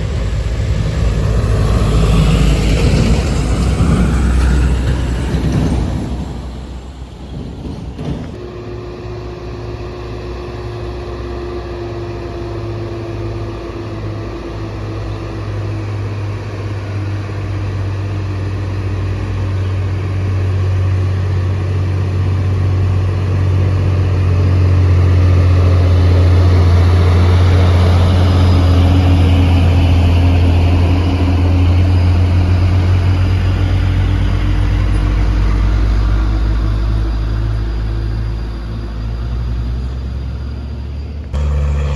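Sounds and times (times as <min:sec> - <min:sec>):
diesel truck engine labouring: 0:00.0 - 0:41.9.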